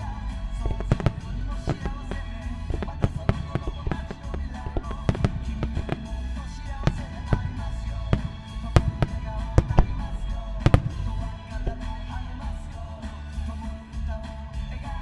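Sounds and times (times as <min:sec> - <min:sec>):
fireworks bursting: 0:00.0 - 0:15.0
pop music playing: 0:00.0 - 0:15.0.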